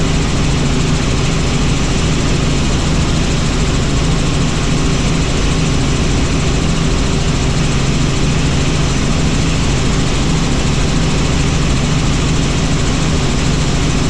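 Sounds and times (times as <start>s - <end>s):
helicopter engine and rotor noise: 0.0s - 14.0s.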